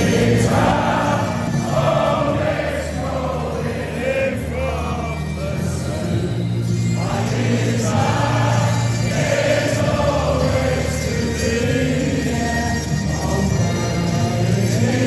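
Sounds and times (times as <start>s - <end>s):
choir singing: 0.0s - 15.0s
low musical accompaniment: 0.0s - 15.0s.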